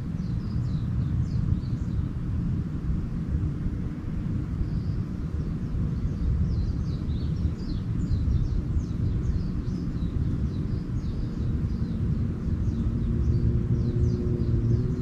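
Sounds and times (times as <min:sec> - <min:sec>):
small birds chirping: 0:00.0 - 0:02.4, 0:04.4 - 0:15.0
steady low rumble: 0:00.0 - 0:15.0.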